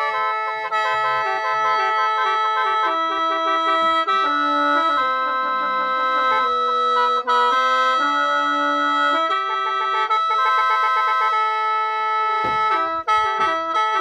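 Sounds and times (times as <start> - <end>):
bamboo mouth organ melody: 0.0 - 14.0.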